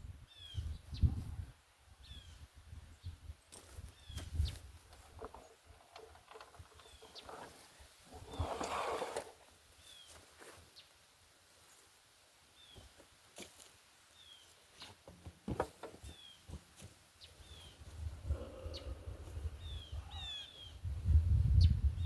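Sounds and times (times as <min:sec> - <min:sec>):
small birds chirping: 0:00.2 - 0:01.2, 0:02.0 - 0:08.7, 0:09.7 - 0:11.0, 0:12.5 - 0:15.1, 0:16.0 - 0:22.0.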